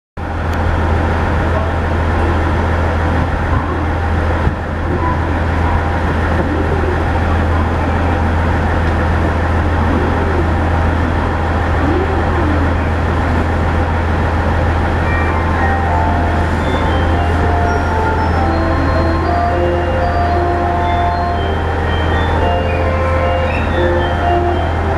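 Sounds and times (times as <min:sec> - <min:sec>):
diesel railcar engine humming: 0:00.2 - 0:24.9
melody-like notes: 0:01.8 - 0:24.9.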